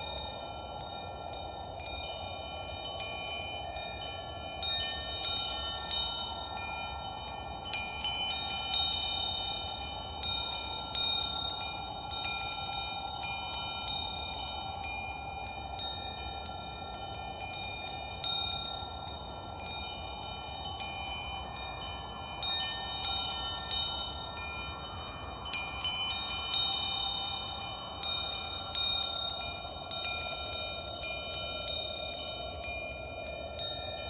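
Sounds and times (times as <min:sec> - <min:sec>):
wind chimes ringing: 0:00.0 - 0:34.0.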